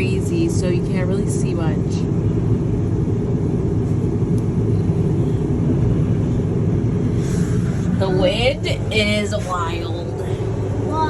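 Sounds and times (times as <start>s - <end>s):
blizzard wind rumbling: 0.0s - 11.0s.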